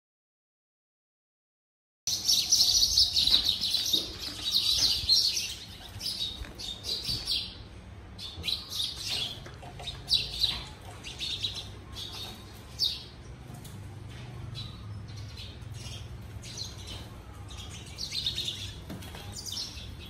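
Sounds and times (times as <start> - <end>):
small birds chirping: 2.1 - 20.0.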